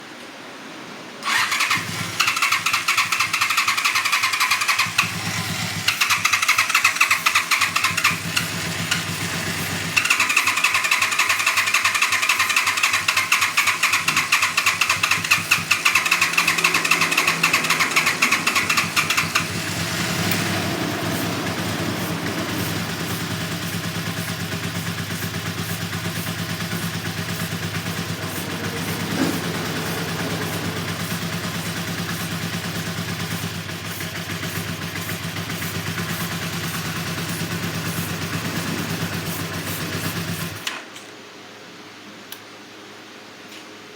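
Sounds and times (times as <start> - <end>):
motorcycle engine running: 1.2 - 40.8
motorcycle starter cranking: 1.2 - 41.0.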